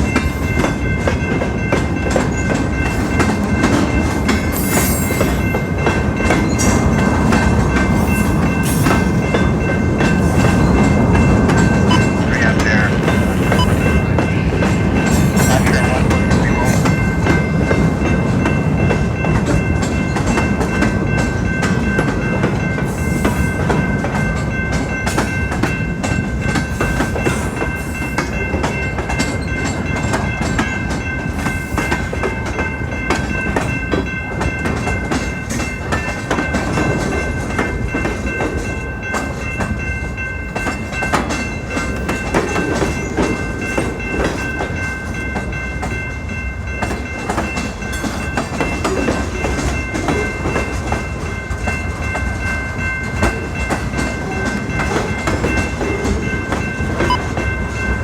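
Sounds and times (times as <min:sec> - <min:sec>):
freight train wheels clickety-clack: 0:00.0 - 0:58.0
steady high ringing tone: 0:00.0 - 0:58.0.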